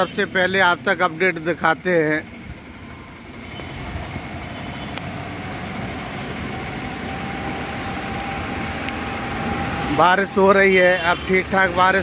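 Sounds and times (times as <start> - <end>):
rain hiss on street: 0.0 - 12.0.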